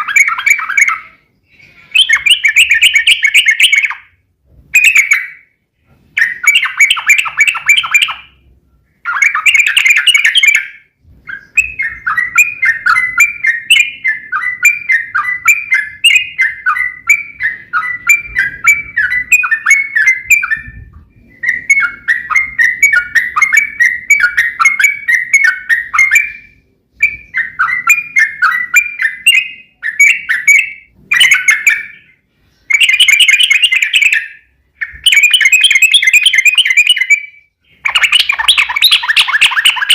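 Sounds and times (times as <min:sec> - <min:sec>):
bulbul singing chattering trills: 0:00.0 - 0:04.2, 0:06.2 - 0:39.9.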